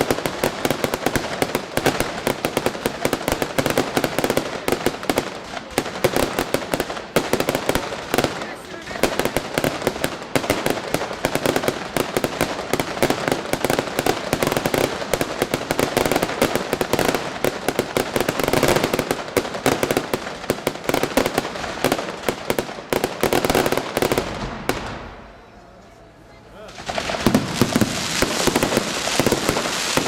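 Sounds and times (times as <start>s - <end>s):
fireworks bangs and crackling: 0.0s - 25.5s, 26.6s - 30.0s.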